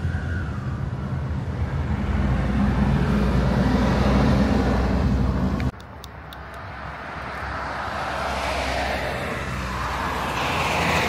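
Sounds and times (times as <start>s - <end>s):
box truck approaching on highway: 0.0s - 11.0s.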